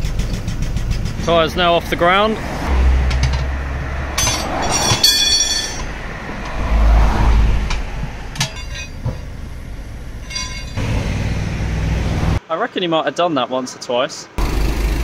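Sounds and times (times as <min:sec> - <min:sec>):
engine running: 0:00.0 - 0:12.4, 0:14.4 - 0:15.0
heavy vehicle rumbling past: 0:00.0 - 0:12.4
road traffic: 0:00.0 - 0:12.6, 0:13.3 - 0:15.0.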